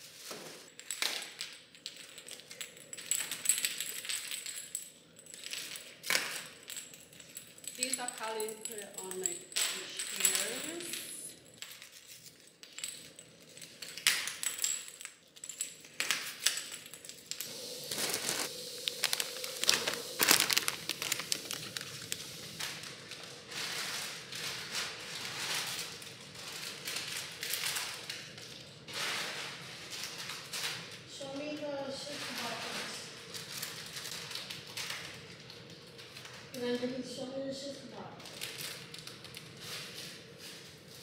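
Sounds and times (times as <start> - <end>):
wrapping crinkling: 0.0 - 37.1, 37.9 - 41.0
plastic pieces clattering: 0.2 - 36.9, 38.2 - 41.0.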